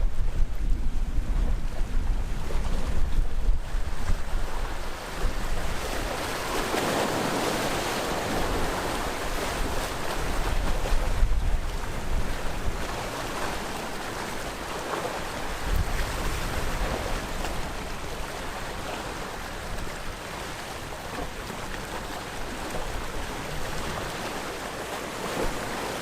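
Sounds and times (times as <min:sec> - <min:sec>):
wind buffeting microphone: 0:00.0 - 0:24.5
sea waves washing on shore: 0:00.0 - 0:26.0.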